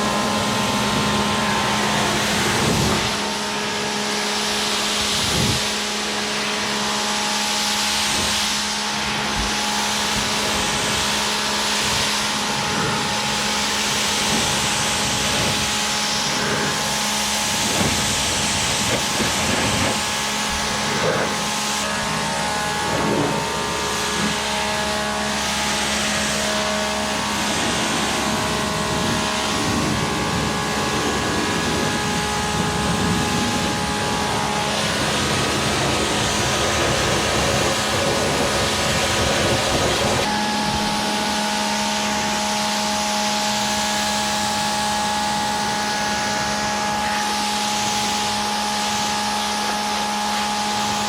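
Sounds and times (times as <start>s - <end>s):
pressure washer water jet hissing: 0.0s - 51.0s
pump motor humming: 0.0s - 51.0s.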